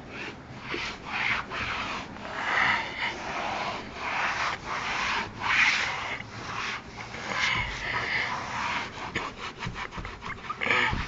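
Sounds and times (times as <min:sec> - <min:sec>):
towel scrubbing a running board: 0:00.0 - 0:11.0.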